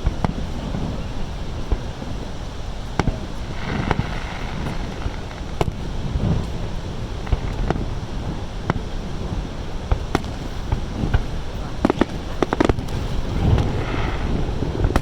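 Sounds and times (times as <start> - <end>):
fireworks booming: 0.0 - 15.0
fireworks crackle: 0.0 - 15.0
steady rushing background: 0.0 - 15.0.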